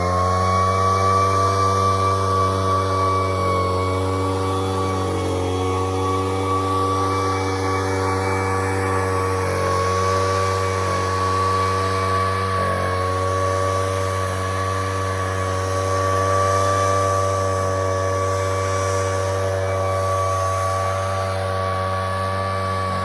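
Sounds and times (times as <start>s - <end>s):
leaf blower engine running: 0.0s - 23.0s.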